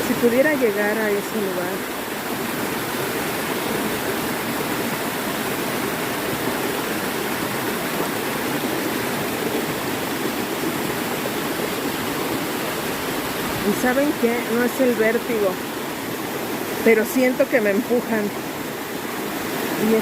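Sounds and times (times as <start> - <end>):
waterfall crashing onto rocks: 1.5 - 20.0.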